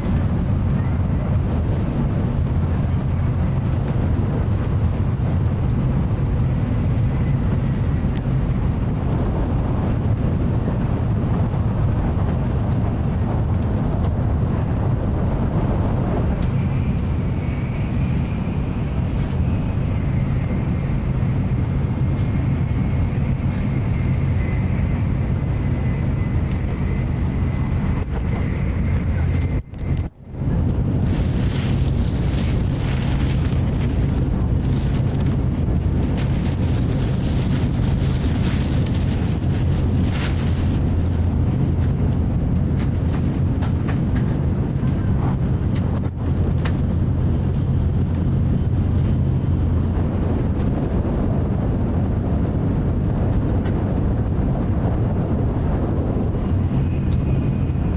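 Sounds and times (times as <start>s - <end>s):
train running gear rumble: 0.0s - 57.9s.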